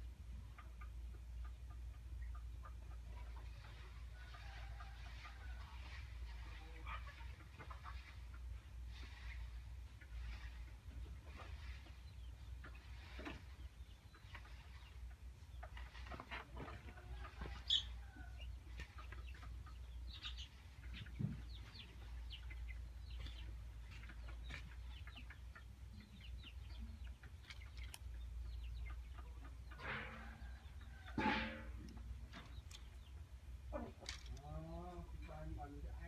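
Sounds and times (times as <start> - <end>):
chickens clucking faintly: 0.0 - 36.0.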